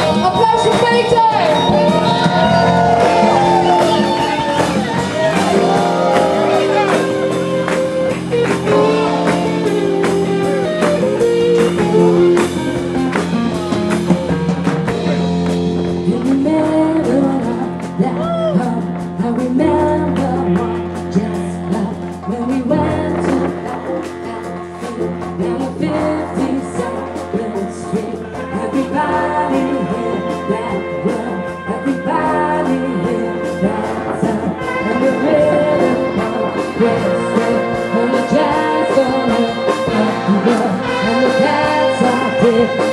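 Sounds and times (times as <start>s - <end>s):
big band playing live: 0.0s - 42.9s
held brass chords: 0.0s - 42.9s
person singing: 0.0s - 42.9s.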